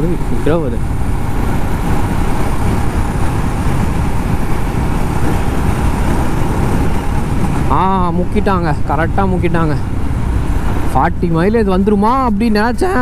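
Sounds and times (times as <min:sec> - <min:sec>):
motorcycle engine: 0:00.0 - 0:12.2
wind rush on microphone: 0:00.0 - 0:13.0.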